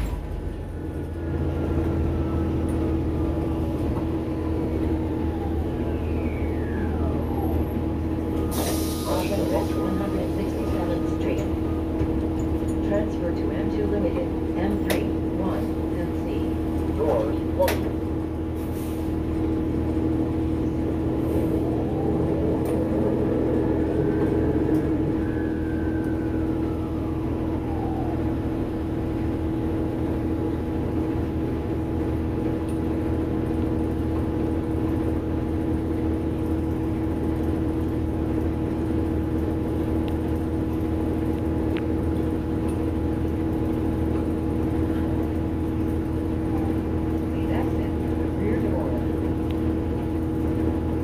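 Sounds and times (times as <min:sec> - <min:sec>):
bus engine drone: 0:00.0 - 0:51.0
bus whine rising and falling: 0:00.0 - 0:51.0.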